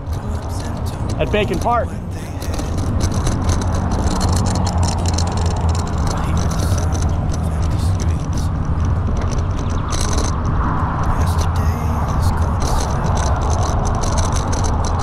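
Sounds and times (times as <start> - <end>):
faint crackles: 0.0 - 15.0
tyre noise on pavement: 0.0 - 15.0
wind rumble on microphone: 0.0 - 15.0.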